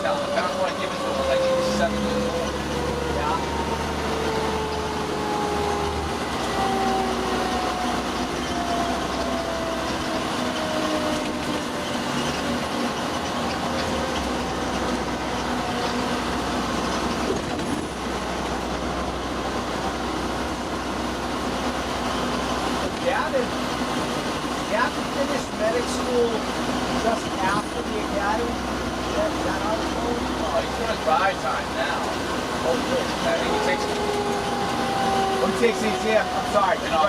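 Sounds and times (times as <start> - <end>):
engine and road rumble: 0.0 - 37.0.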